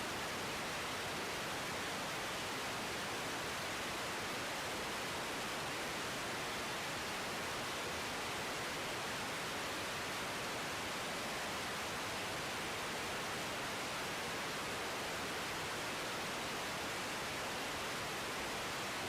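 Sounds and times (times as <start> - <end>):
steady static hiss: 0.0 - 19.0.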